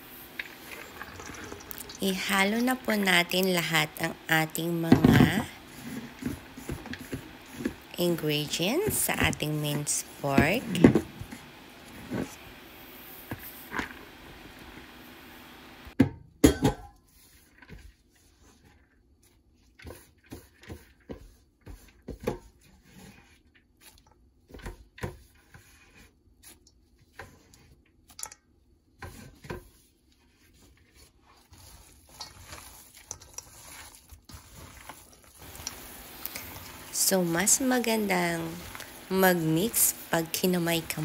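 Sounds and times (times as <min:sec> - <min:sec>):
hand mixing meat rustling: 0:00.0 - 0:15.4, 0:17.1 - 0:41.0.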